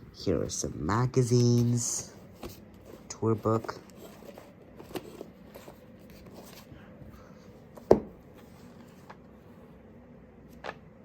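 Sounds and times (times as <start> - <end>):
faint handling sounds: 0.3 - 10.8.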